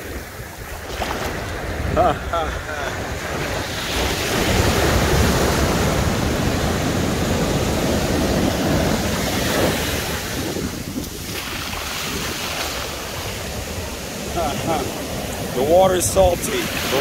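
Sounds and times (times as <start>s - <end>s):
ocean surf breaking on sand: 0.0s - 17.0s.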